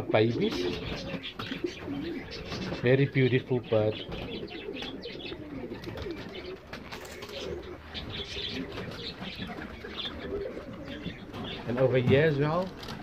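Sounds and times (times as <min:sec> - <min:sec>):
pigeons cooing: 0:00.0 - 0:13.0
higher bird chirps: 0:00.4 - 0:11.7.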